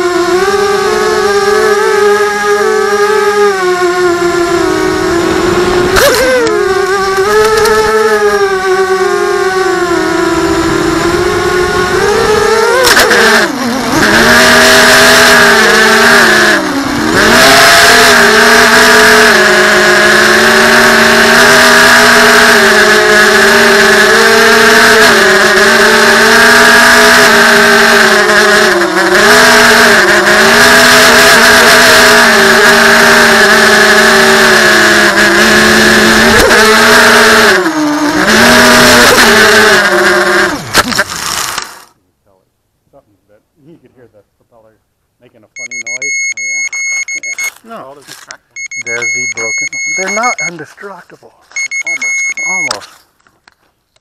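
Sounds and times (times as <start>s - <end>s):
quadcopter motors whining: 0.0s - 42.0s, 45.6s - 47.6s, 48.2s - 50.6s, 51.5s - 53.0s.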